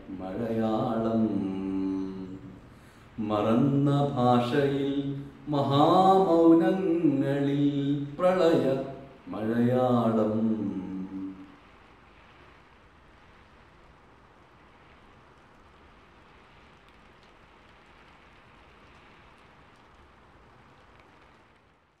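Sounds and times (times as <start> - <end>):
faint steady rain: 0.0 - 22.0.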